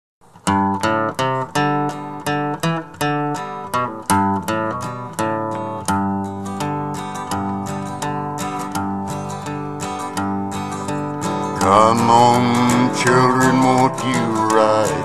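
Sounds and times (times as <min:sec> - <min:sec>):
acoustic guitar strumming: 0:00.2 - 0:15.0.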